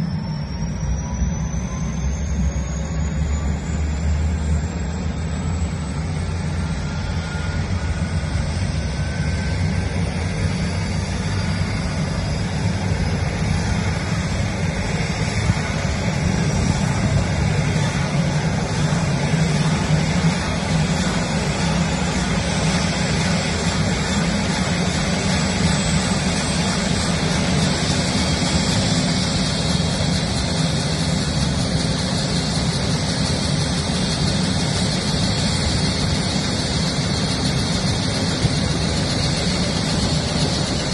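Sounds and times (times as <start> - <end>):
helicopter engines spooling up: 0.0 - 40.9.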